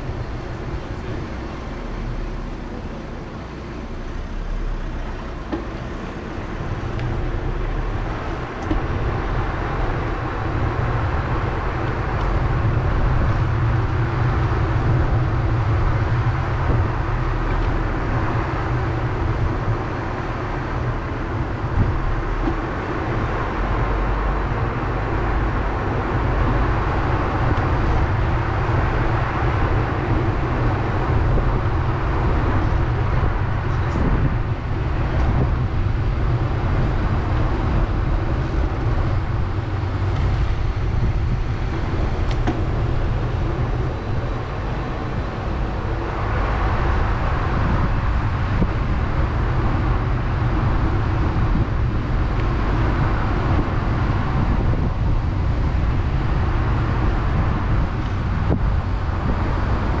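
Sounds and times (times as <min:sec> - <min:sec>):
street traffic noise: 0:00.0 - 1:00.0
wind rumble on microphone: 0:00.0 - 1:00.0.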